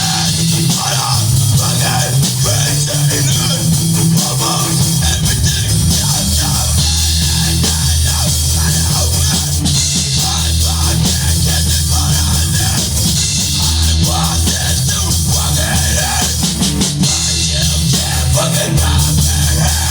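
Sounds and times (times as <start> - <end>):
bass guitar: 0.0 - 19.9
distorted guitars: 0.0 - 19.9
drum kit with crashing cymbals: 0.0 - 19.9.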